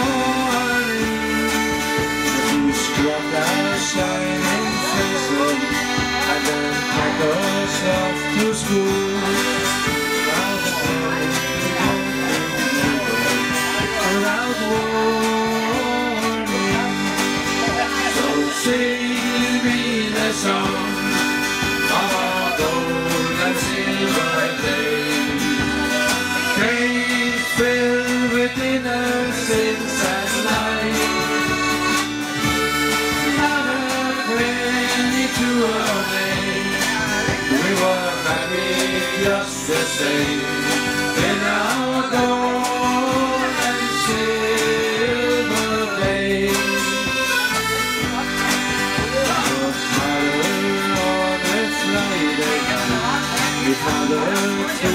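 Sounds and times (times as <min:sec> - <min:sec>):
accordion melody: 0:00.0 - 0:54.9
bass guitar: 0:00.0 - 0:54.9
drums: 0:00.0 - 0:54.9
guitar: 0:00.0 - 0:54.9.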